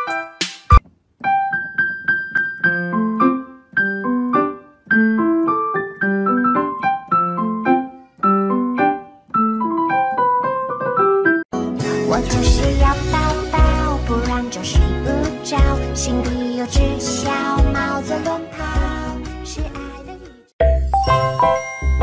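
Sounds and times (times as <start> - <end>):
light piano melody: 0.0 - 19.8, 20.6 - 22.0.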